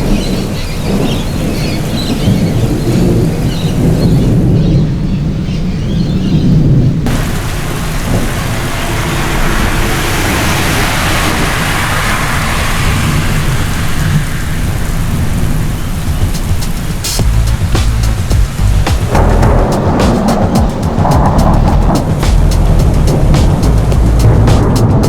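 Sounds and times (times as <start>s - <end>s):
heavy rain: 0.0s - 25.0s
low rumble of thunder: 0.0s - 25.0s.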